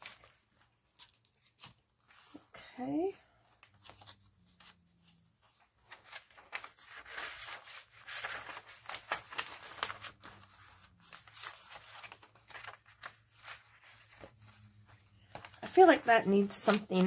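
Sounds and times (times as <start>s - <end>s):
paper pages rustling: 0.0s - 2.5s, 3.4s - 17.0s.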